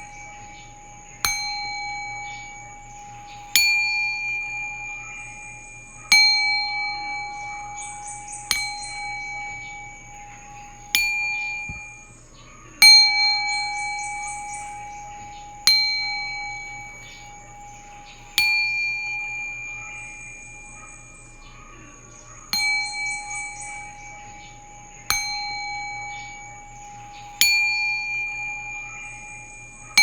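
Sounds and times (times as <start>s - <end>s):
metal bells struck: 0.0s - 30.0s.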